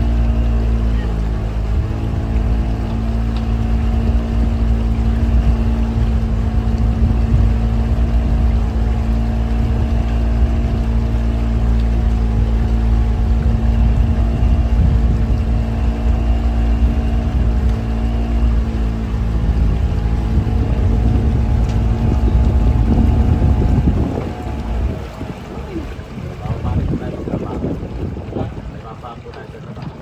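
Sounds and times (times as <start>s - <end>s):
boat motor running: 0.0s - 30.0s.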